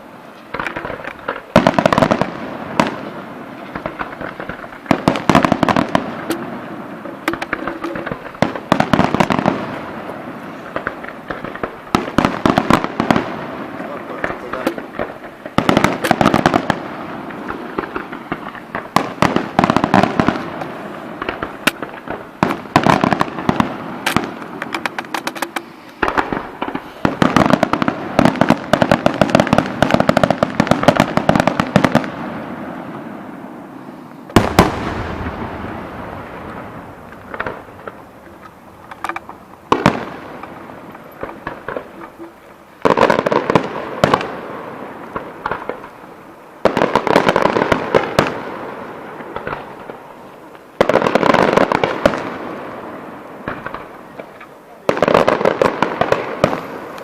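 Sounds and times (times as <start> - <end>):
loud fireworks boom: 0.0 - 46.0
fireworks bangs and crackling: 0.0 - 57.0.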